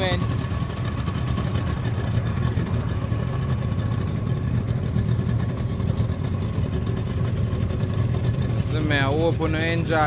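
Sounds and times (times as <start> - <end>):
motorboat engine running: 0.0 - 10.0
wind and water rushing: 0.0 - 10.0.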